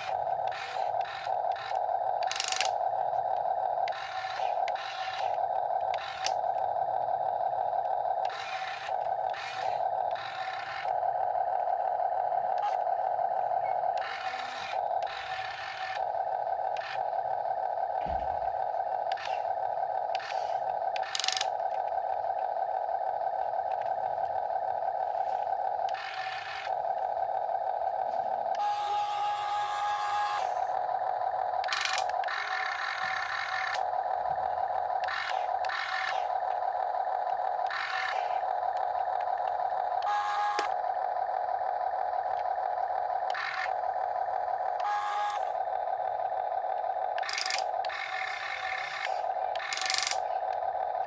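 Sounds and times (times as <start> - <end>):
electric motors whining: 0.0 - 51.0.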